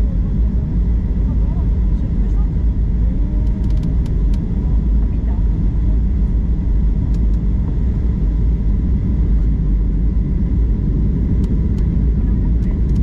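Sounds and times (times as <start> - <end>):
airliner engines rumbling: 0.0 - 13.0.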